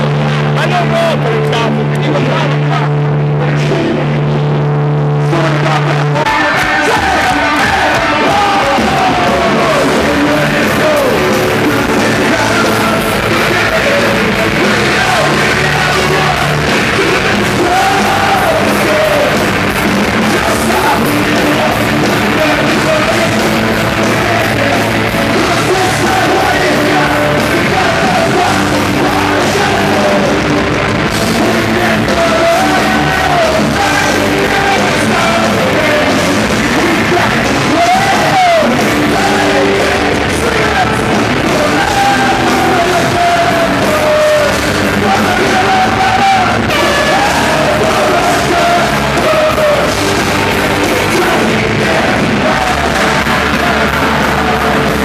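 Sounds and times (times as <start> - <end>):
live rock band playing: 0.0 - 55.0
singer yelling vocals: 0.0 - 55.0.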